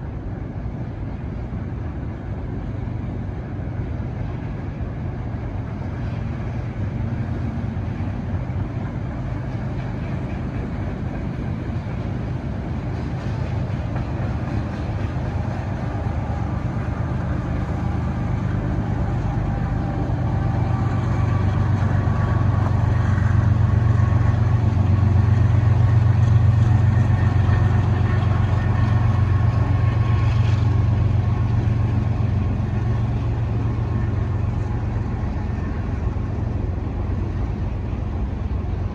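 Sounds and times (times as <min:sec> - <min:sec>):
freight train cars rumbling: 0:00.0 - 0:38.9.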